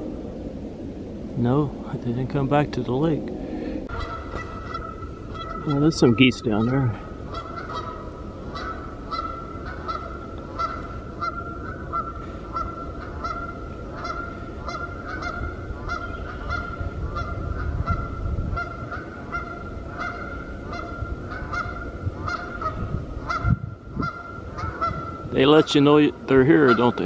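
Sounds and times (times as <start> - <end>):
geese honking: 3.0 - 27.0.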